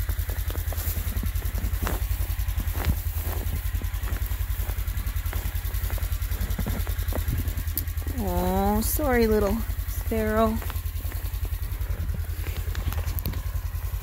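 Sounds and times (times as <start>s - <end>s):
boots crunching through snow: 0.0s - 14.0s
vehicle engine idling: 0.0s - 14.0s.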